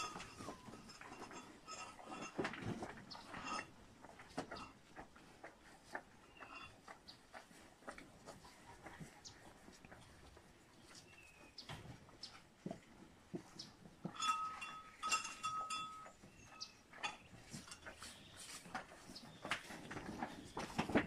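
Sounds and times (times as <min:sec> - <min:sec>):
cattle crunching grain feed: 0:00.0 - 0:21.0.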